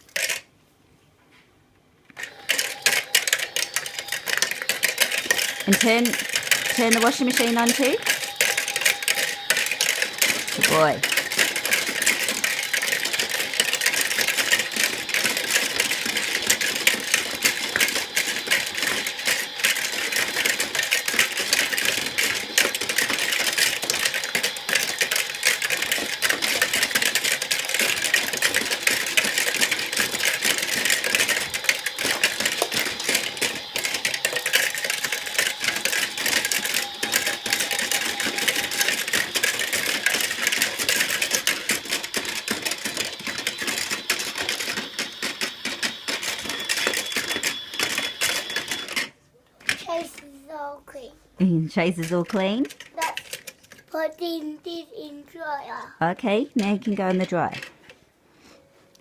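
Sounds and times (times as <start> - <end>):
toy washing machine rattling: 0.0 - 0.5, 2.2 - 55.7, 56.3 - 58.0.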